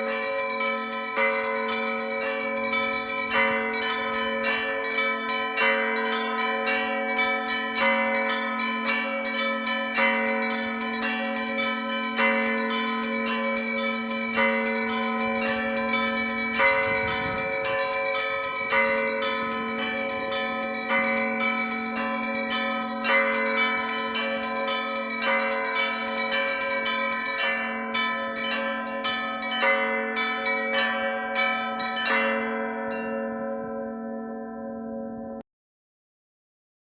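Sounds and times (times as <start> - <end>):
large bells humming: 0.0 - 34.5
small church bells striking: 0.0 - 35.4.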